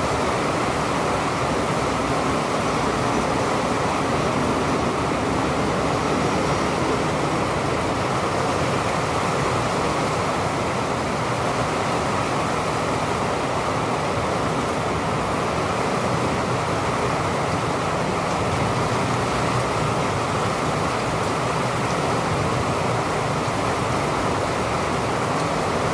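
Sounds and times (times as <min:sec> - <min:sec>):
rain falling steadily: 0:00.0 - 0:25.9.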